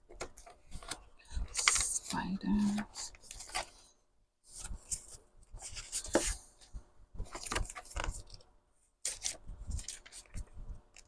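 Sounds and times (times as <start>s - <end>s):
paper pages rustling: 0.1s - 11.0s.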